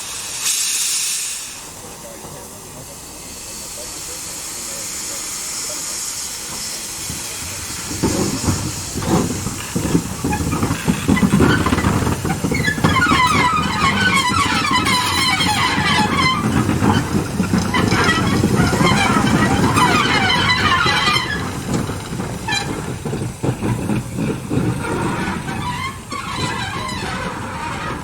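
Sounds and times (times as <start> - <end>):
steam locomotive hissing: 0.0 - 28.0
locomotive exhaust beats: 1.8 - 28.0.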